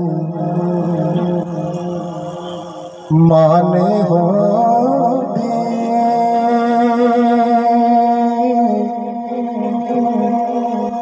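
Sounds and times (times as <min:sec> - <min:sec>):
man singing long wordless notes: 0:00.0 - 0:11.0.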